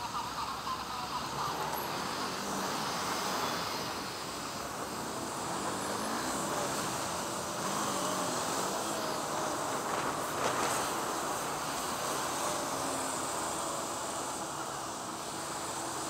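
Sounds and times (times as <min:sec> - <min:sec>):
city traffic noise: 0:00.0 - 0:16.0
faint vehicle engines: 0:00.0 - 0:16.0.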